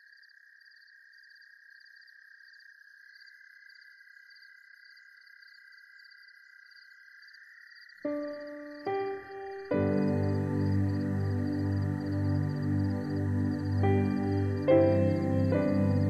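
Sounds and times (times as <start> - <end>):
high insect trill: 0.0 - 16.0
sharp pulsing insect chirp: 0.0 - 16.0.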